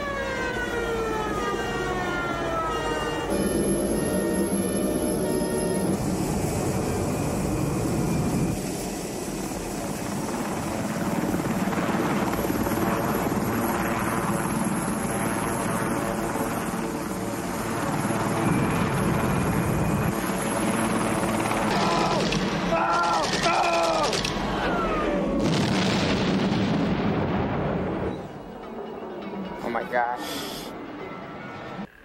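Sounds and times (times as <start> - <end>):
helicopter rotor and engines: 0.0 - 26.4, 27.3 - 32.0.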